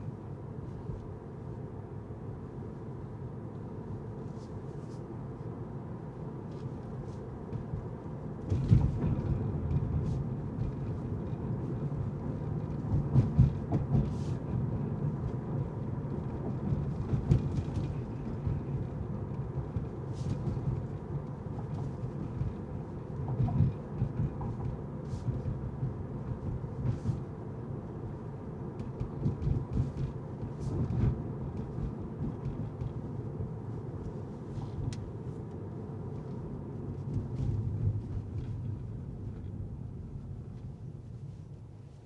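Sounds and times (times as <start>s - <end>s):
car tyres and engine rumble: 0.0s - 42.0s.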